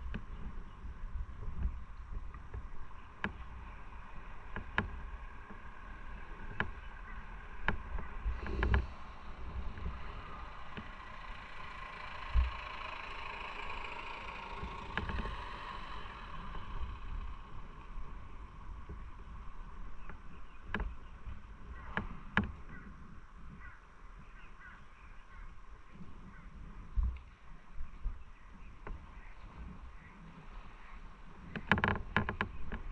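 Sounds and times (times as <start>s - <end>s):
road noise: 0.0s - 32.9s
wind buffeting microphone: 0.0s - 32.9s.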